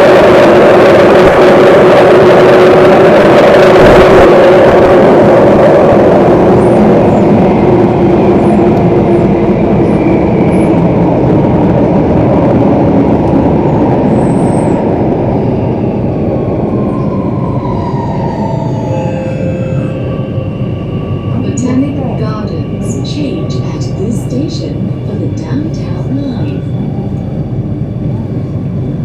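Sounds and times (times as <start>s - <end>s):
train rumbling through tunnel: 0.0s - 29.0s.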